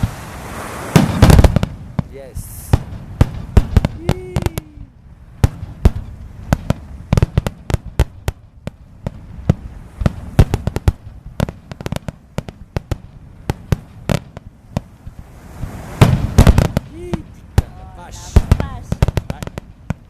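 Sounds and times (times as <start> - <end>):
fireworks bursting with sharp bangs: 0.0 - 20.0
low rumbles: 0.0 - 20.0.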